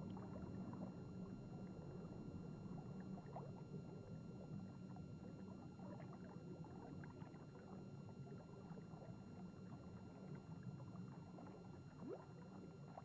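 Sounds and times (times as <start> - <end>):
low underwater rumble: 0.0 - 13.0.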